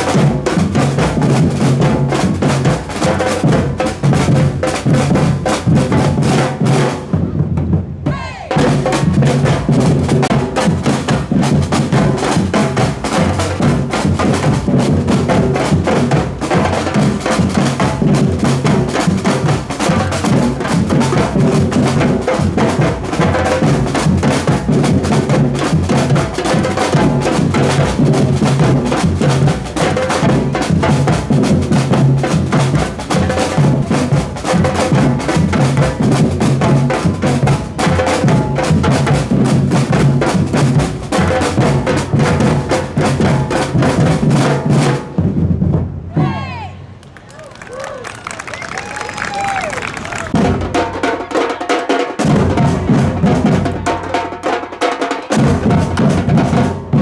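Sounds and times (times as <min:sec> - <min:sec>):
drum band playing: 0:00.0 - 0:57.0.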